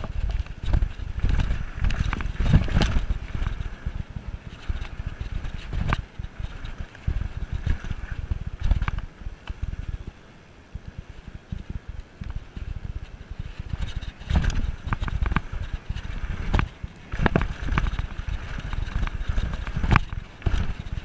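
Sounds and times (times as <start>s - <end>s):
bike knocking and rattling: 0.0s - 21.0s
wind buffeting microphone: 0.0s - 21.0s.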